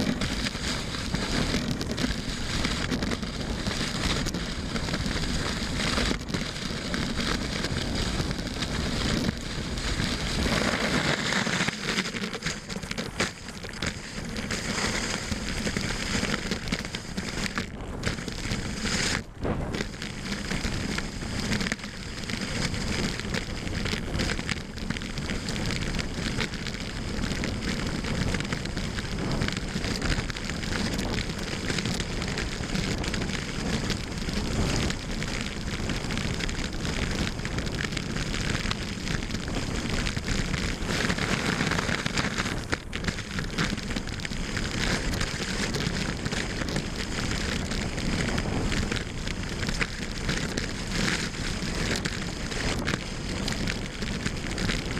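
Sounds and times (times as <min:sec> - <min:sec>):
skis hissing over snow: 0:00.0 - 0:54.9.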